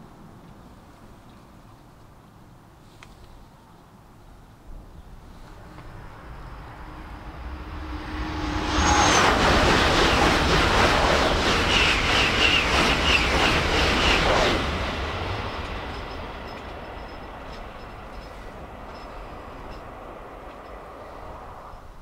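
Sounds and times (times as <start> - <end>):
high-speed train passing: 4.2 - 22.0.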